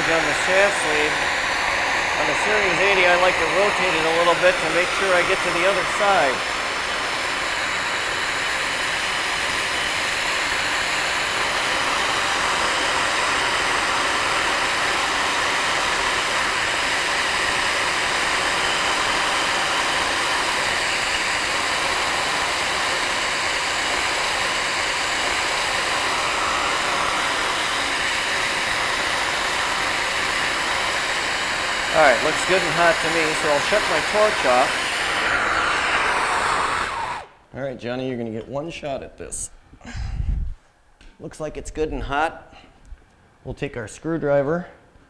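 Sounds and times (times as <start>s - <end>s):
gas torch hissing: 0.0s - 37.5s.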